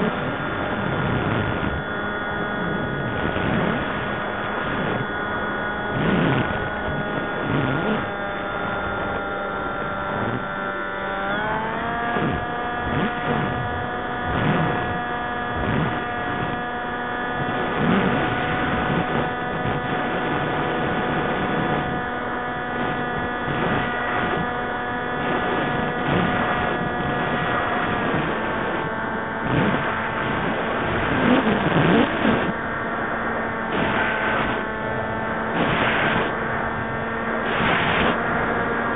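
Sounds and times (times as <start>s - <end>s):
model aircraft motor whine: 0.0s - 38.9s.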